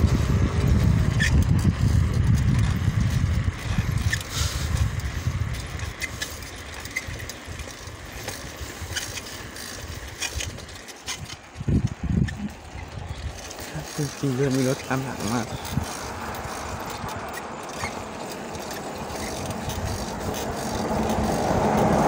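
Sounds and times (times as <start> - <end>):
bicycle rumbling on paved road: 0.0 - 22.0
bike clicks and rattles: 0.0 - 22.0.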